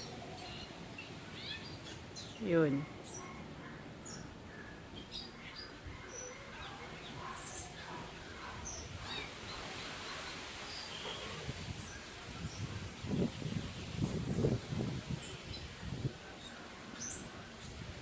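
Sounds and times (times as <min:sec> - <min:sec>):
birds chirping: 0:00.0 - 0:18.0
outdoor background noise: 0:00.0 - 0:18.0.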